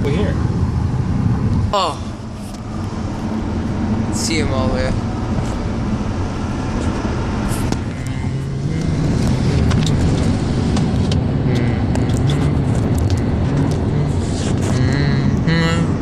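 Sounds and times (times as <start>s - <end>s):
car engine accelerating: 0.0s - 16.0s
road noise inside car: 0.0s - 16.0s.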